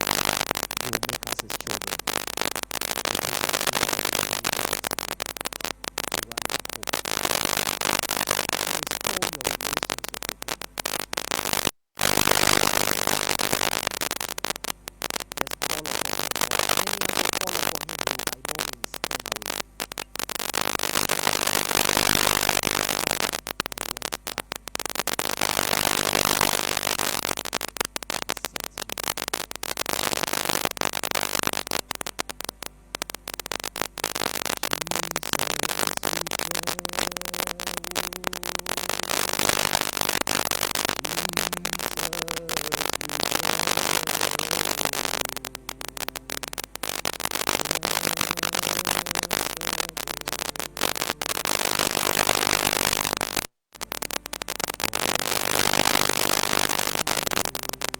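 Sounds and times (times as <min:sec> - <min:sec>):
loud crackling static: 0:00.0 - 0:57.9.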